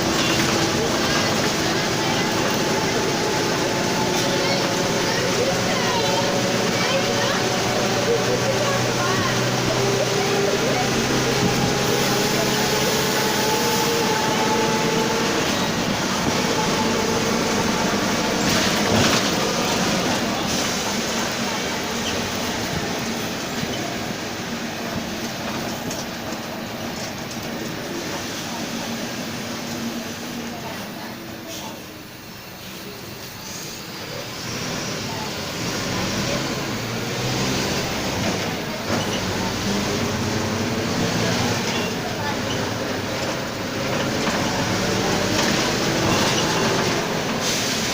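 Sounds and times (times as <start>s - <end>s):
bus engine and driveline noise: 0.0s - 47.9s.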